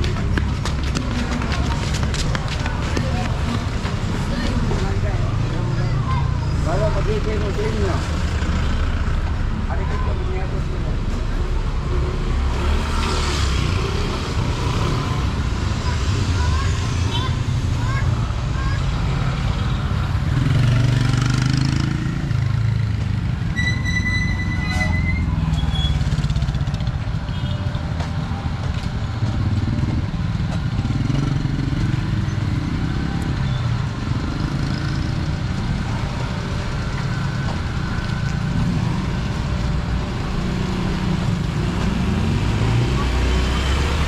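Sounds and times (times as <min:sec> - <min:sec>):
motorcycle engines passing: 0:00.0 - 0:44.0.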